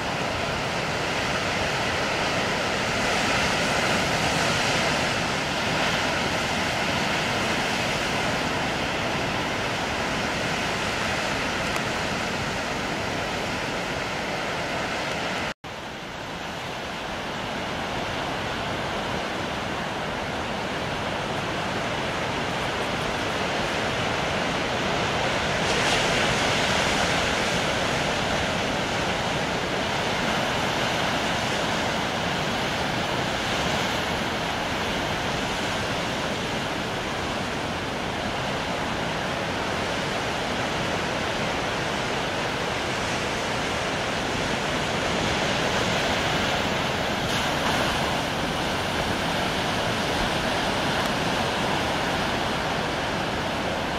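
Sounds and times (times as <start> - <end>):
rough sea surf: 0.0 - 53.9
wind buffeting microphone: 0.0 - 53.9.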